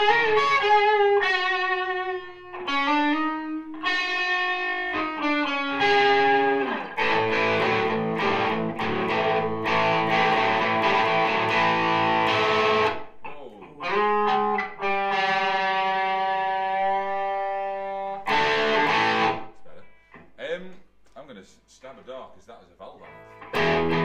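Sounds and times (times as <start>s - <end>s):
overdriven electric guitar: 0.0s - 20.2s, 23.0s - 24.0s.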